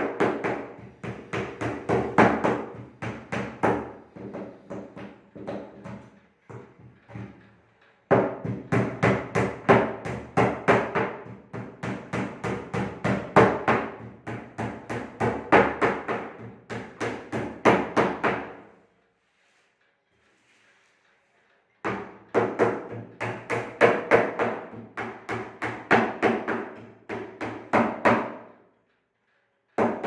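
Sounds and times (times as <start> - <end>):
hammer striking wood: 0.0 - 7.3, 8.1 - 18.6, 21.8 - 28.5, 29.8 - 30.0.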